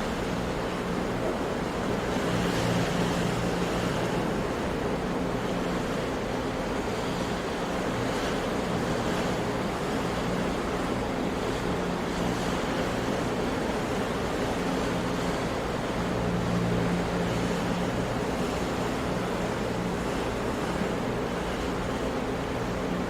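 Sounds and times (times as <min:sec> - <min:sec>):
sea surf waves: 0:00.0 - 0:23.0.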